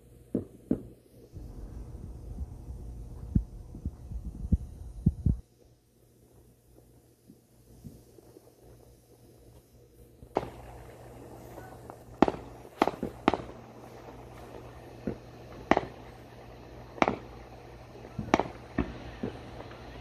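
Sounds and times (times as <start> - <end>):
low steady hum: 0.0 - 20.0
fireworks bangs: 0.3 - 5.4, 6.1 - 20.0.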